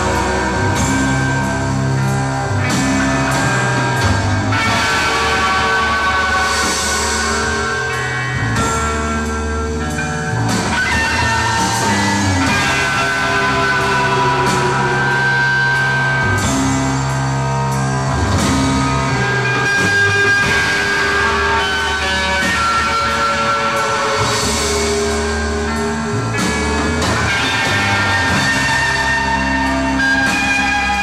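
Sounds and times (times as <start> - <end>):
electric guitar lines: 0.0 - 31.0
sustained bass notes: 0.0 - 31.0.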